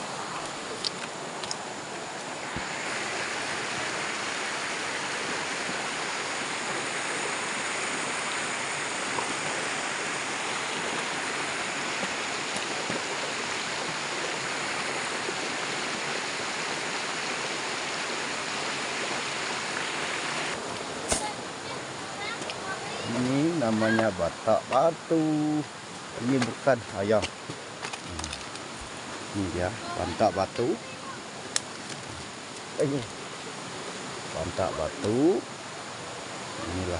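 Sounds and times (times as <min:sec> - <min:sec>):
river rushing over boulders: 0:00.0 - 0:36.9.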